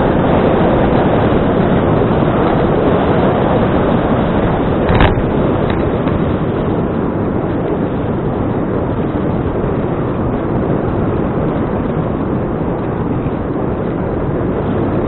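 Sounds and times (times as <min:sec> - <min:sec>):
wind buffeting microphone: 0:00.0 - 0:15.0
low rumble: 0:01.1 - 0:15.0.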